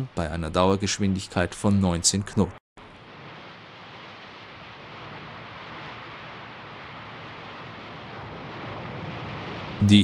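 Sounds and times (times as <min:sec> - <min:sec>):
wind and sea rushing: 0:00.0 - 0:10.0.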